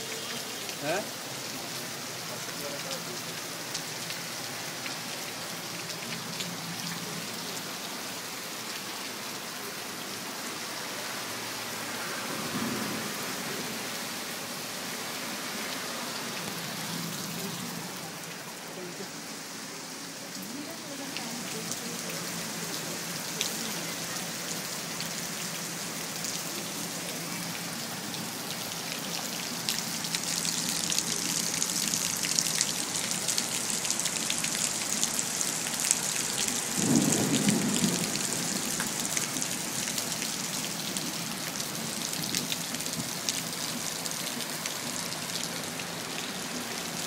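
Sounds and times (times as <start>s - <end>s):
heavy rain on pavement: 0.0s - 47.0s.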